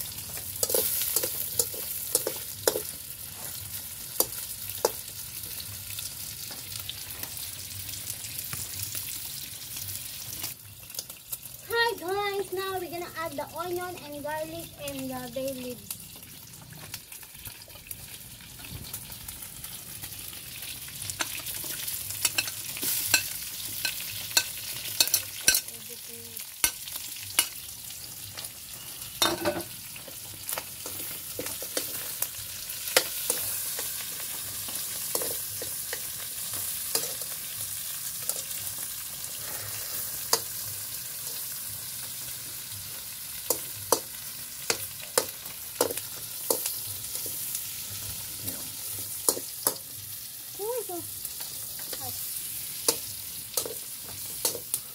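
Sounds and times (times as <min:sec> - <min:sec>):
meat sizzling in a wok: 0:00.0 - 0:54.9.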